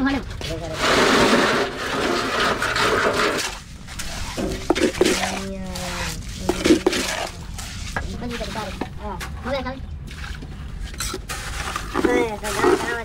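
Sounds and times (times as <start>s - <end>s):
concrete pouring from wheelbarrow: 0.4s - 8.8s, 10.8s - 13.0s.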